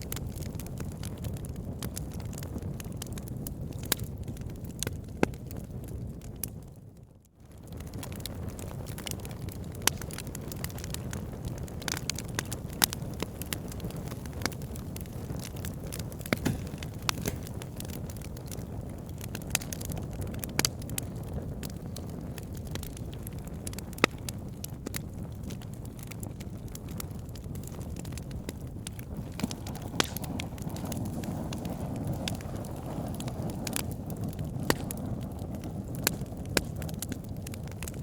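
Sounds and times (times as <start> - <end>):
fire crackles and pops: 0.0 - 38.0
low rumble of flame: 0.0 - 38.0.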